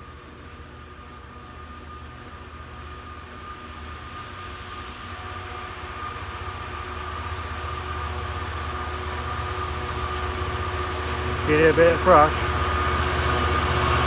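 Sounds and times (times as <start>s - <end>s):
diesel locomotive engine throb: 0.0s - 14.0s
high whine: 0.6s - 14.0s.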